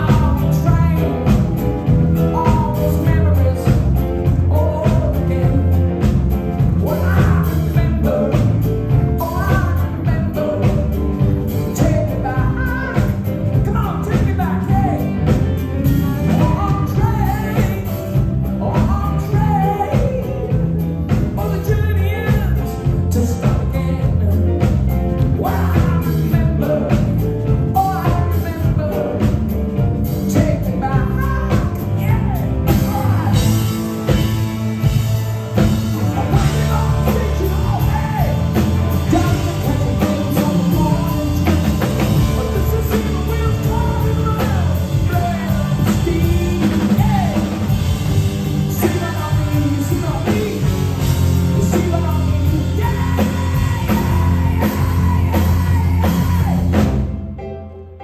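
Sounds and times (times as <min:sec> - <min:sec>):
man singing lead vocal: 0:00.0 - 0:57.2
live rock band playing: 0:00.0 - 0:58.0.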